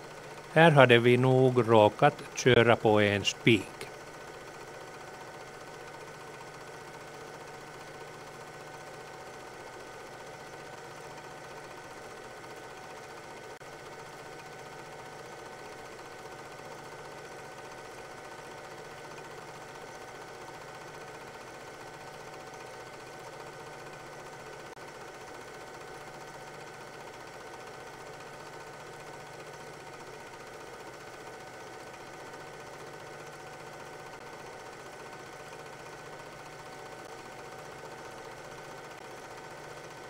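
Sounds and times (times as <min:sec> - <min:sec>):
film projector whirring: 0:00.0 - 0:00.6, 0:03.3 - 0:40.0.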